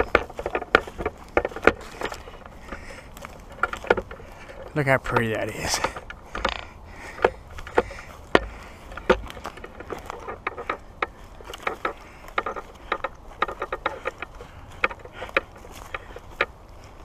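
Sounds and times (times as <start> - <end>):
footsteps crunching through dry leaves: 0.0 - 17.0.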